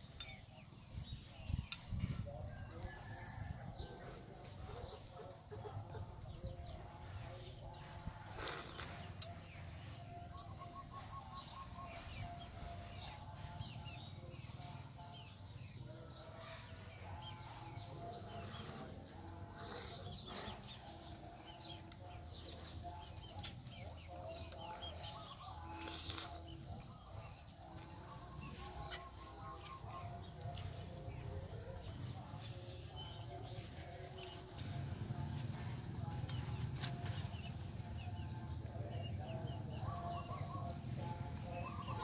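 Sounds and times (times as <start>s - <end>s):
small birds chirping: 0.0s - 3.4s, 4.3s - 42.0s
chickens clucking: 0.0s - 42.0s.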